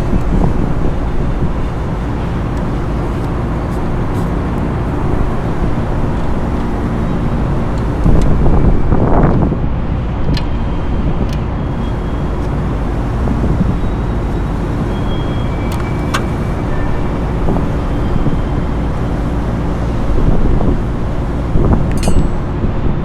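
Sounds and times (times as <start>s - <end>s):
low machinery hum: 0.0s - 23.0s
rushing background noise: 0.0s - 23.0s.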